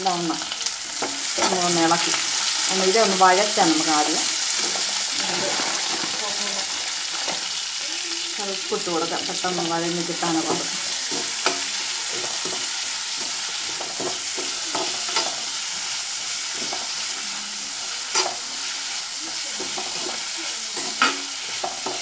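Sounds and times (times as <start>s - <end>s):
onions sizzling in a pan: 0.0s - 22.0s.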